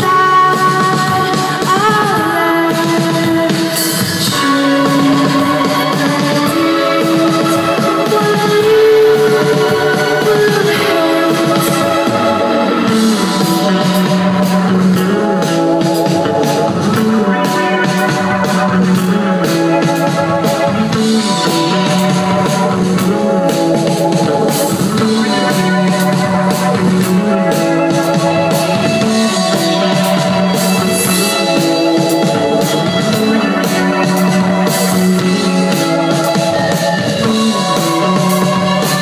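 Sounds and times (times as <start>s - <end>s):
rock band playing: 0.0s - 39.0s.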